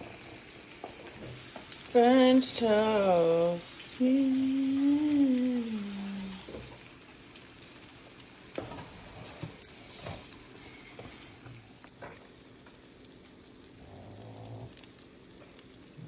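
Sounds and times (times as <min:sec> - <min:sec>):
french toast sizzling in a pan: 0:00.0 - 0:16.0.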